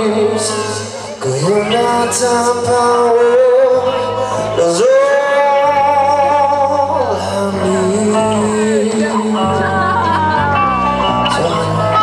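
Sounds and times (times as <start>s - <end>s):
electric guitars: 0.0s - 12.0s
person singing long notes: 0.0s - 12.0s.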